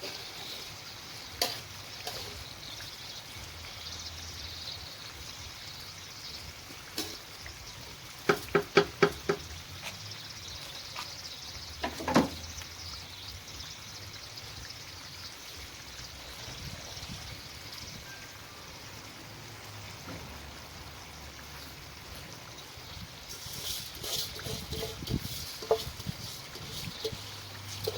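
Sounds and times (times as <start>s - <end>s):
faint steady hiss: 0.0s - 27.9s.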